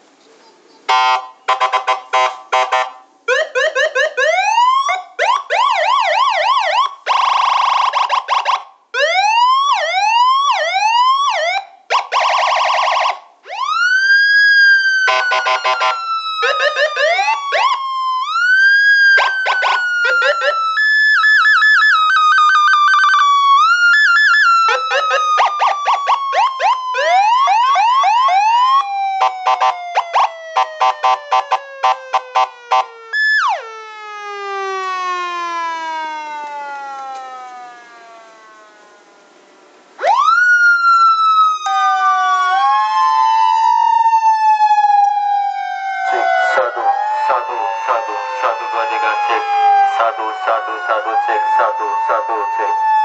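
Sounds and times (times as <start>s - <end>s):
electronic police siren: 0.9s - 39.4s, 40.0s - 53.0s.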